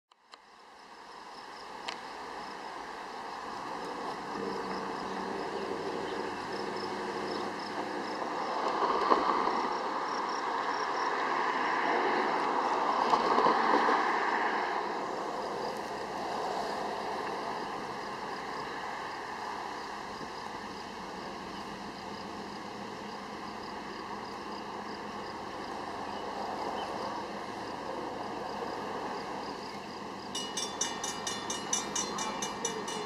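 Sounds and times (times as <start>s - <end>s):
road traffic noise: 0.6s - 33.0s.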